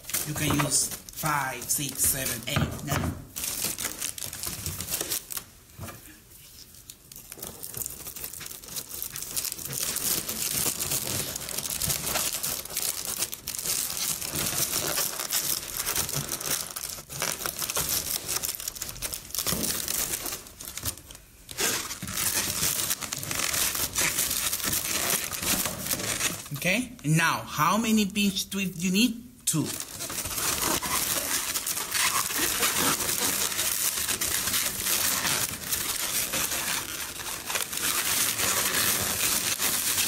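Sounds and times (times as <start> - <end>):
foil balloon crinkling: 0.0 - 5.6, 6.4 - 26.6, 29.5 - 40.0.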